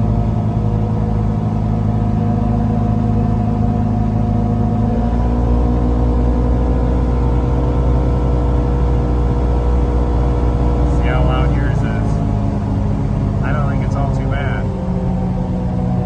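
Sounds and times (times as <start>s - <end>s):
vehicle engine drone from inside cab: 0.0s - 16.0s.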